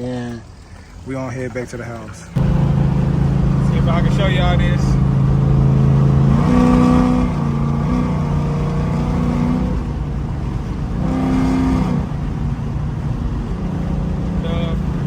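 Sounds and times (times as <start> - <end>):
car engine droning inside cabin: 0.0 - 15.0.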